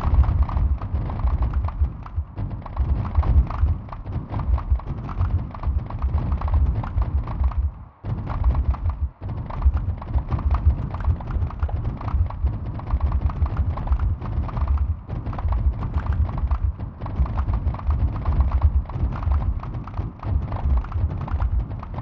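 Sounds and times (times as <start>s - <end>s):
deep low thumps: 0.0s - 22.0s
dense patter of thuds and ticks: 0.0s - 22.0s.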